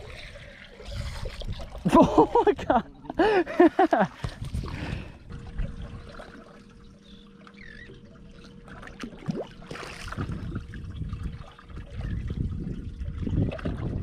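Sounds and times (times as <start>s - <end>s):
faint steady hum: 0.0s - 14.0s
water lapping against hull: 0.0s - 14.0s.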